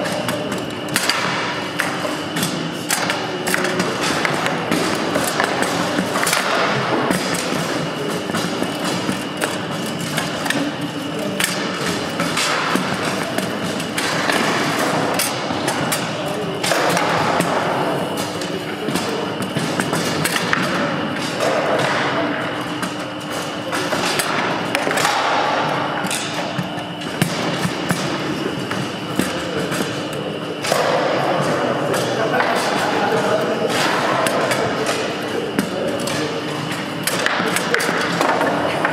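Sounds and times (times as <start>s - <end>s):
murmur of voices in a hall: 0.0s - 38.9s.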